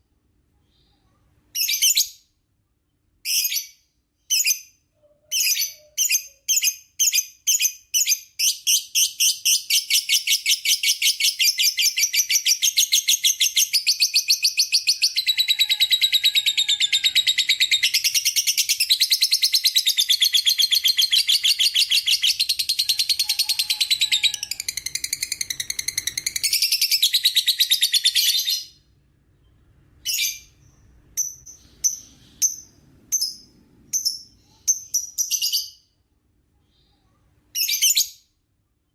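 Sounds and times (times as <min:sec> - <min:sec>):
lovebird chirping and trilling: 0:01.5 - 0:02.3, 0:03.2 - 0:28.8, 0:29.4 - 0:35.9, 0:37.5 - 0:38.3.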